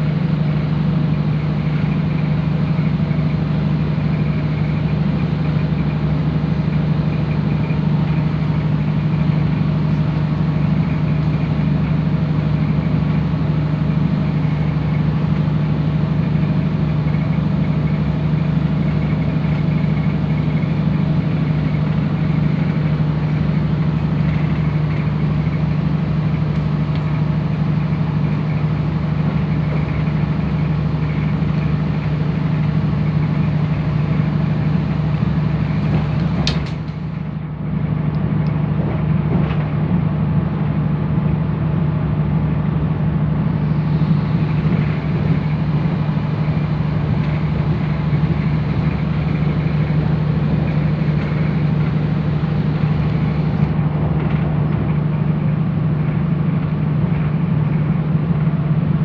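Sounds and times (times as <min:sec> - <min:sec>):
diesel engine drone: 0:00.0 - 0:59.0
wheel and rail noise: 0:00.0 - 0:59.0.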